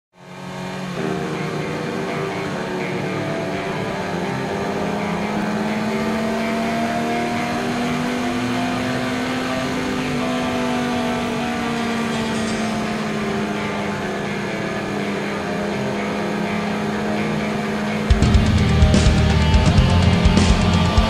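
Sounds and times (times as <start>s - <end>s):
motorcycle engine cruising: 0.2s - 21.0s.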